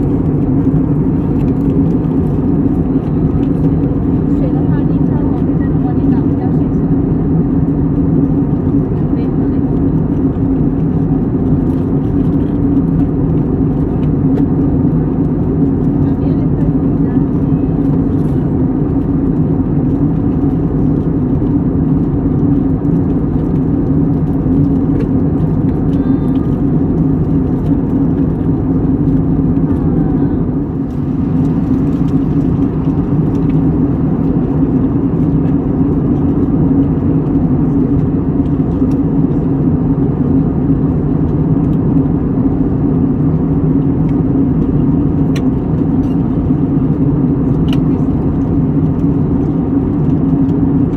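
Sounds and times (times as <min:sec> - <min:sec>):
low engine drone: 0:00.0 - 0:50.9.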